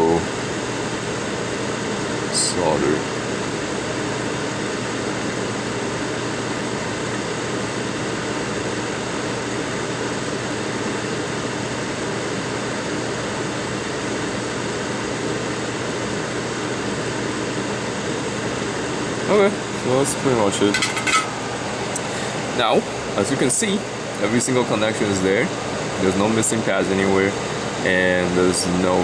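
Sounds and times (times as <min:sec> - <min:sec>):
blower air rushing: 0:00.0 - 0:29.0
faint steady hum: 0:00.0 - 0:29.0.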